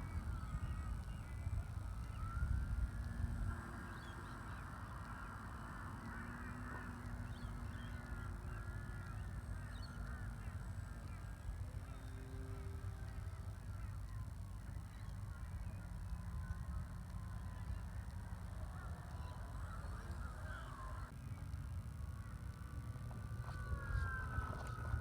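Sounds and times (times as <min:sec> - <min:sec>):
birds honking: 0:00.0 - 0:21.1
faint steady hum: 0:00.0 - 0:25.0
wind rumble on microphone: 0:00.0 - 0:25.0.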